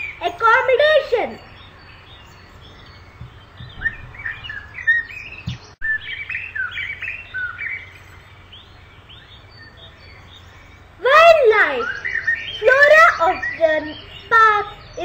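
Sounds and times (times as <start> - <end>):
birds chirping: 0.0 - 15.0
low steady hiss: 0.0 - 15.0.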